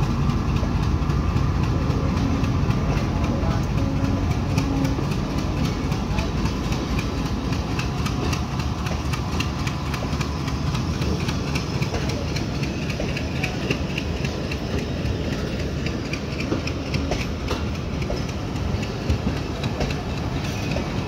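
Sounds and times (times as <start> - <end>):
train wheels rumbling on rails: 0.0 - 21.0
wheels clicking over rail joints: 0.0 - 21.0.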